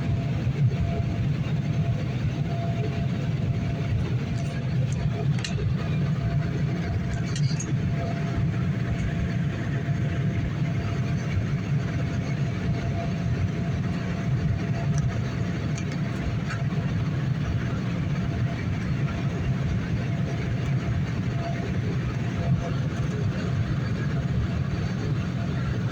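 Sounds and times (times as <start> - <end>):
aircraft engines rumbling in cabin: 0.0 - 25.9.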